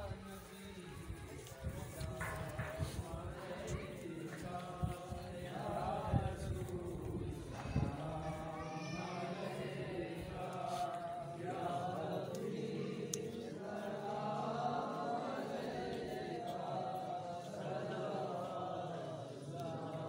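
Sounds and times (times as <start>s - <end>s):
men chanting together: 1.8s - 20.0s.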